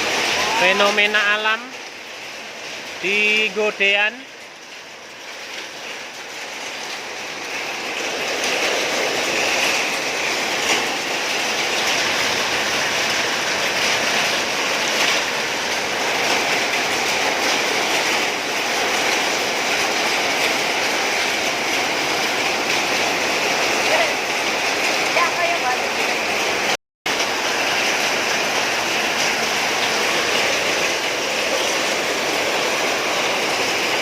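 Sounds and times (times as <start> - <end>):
hailstones pelting down: 0.0 - 34.0.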